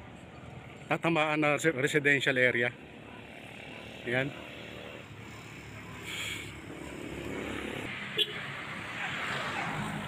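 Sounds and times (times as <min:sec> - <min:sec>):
distant road traffic hum: 0:00.0 - 0:10.0.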